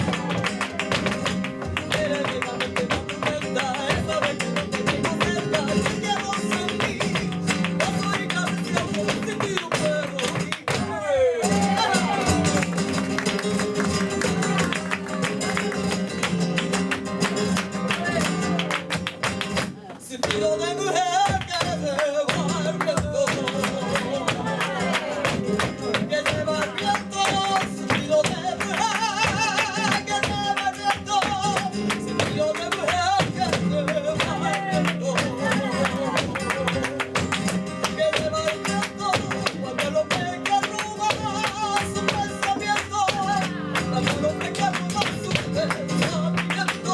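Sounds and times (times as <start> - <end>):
person singing: 0.0 - 12.8, 19.8 - 37.2, 37.8 - 46.9
flamenco guitar strumming: 0.0 - 46.9.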